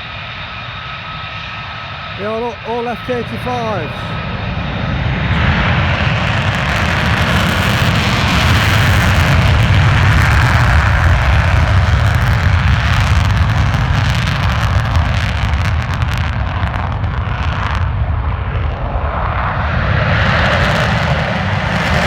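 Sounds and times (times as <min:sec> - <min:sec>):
fighter jet engines roaring: 0:00.0 - 0:22.0.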